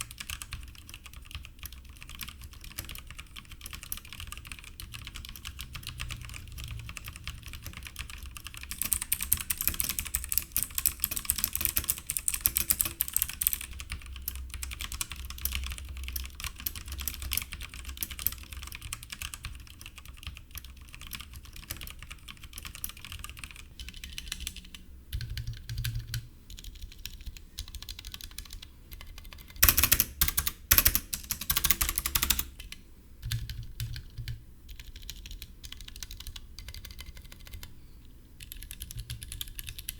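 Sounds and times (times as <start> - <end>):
mechanical keyboard key clacks: 0.0 - 32.5.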